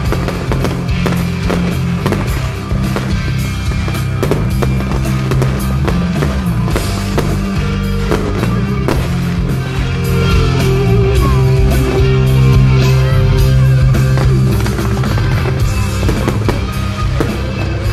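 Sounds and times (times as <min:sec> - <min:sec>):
fireworks bursting: 0:00.0 - 0:17.9
loud show music: 0:00.0 - 0:17.9.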